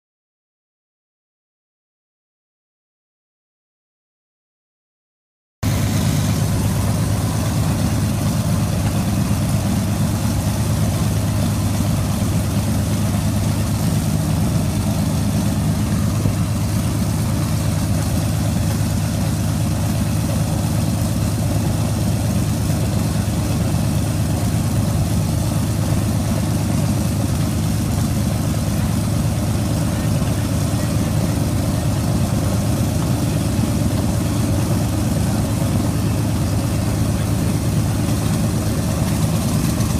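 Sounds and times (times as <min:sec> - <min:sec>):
aircraft engines idling: 0:05.6 - 0:39.9.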